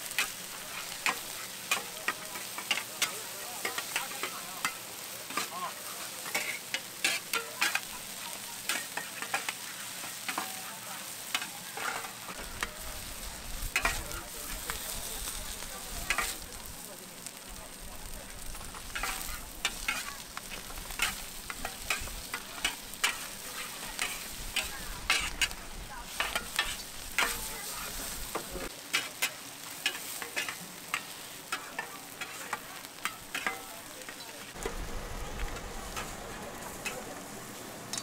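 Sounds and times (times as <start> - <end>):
utensil scraping cooking surface: 0.0 - 16.9, 18.0 - 34.8, 35.4 - 38.0
food sizzling: 0.0 - 38.0.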